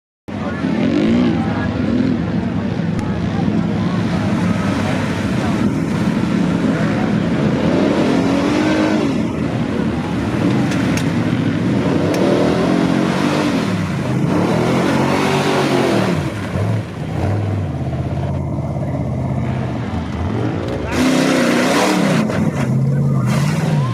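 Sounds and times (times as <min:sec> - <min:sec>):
truck engine revving: 0:00.3 - 0:23.9.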